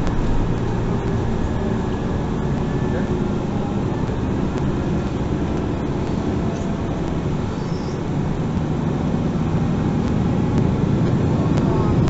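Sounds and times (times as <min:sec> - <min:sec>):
bus engine and rolling noise: 0:00.0 - 0:12.0.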